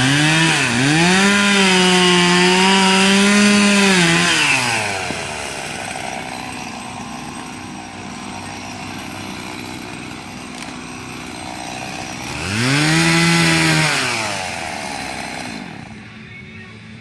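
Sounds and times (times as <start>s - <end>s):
chainsaw engine revving and idling: 0.0s - 16.3s.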